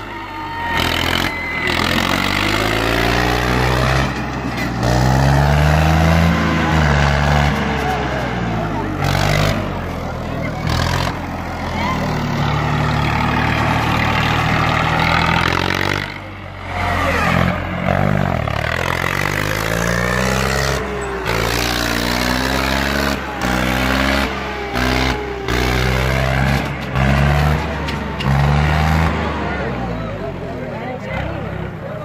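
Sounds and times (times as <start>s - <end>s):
tractor diesel engine revving: 0.0s - 32.0s.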